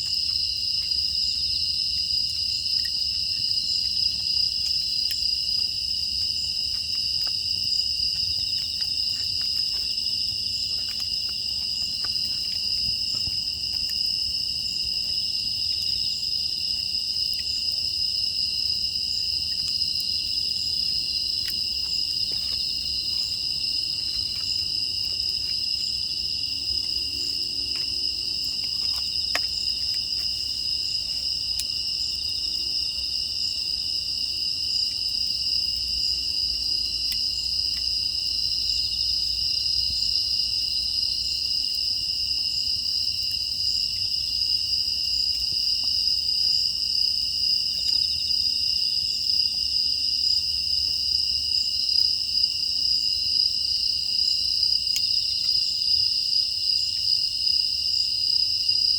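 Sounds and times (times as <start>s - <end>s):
faint wood fire crackles: 0.0s - 51.2s
crickets and insects singing: 0.0s - 58.9s.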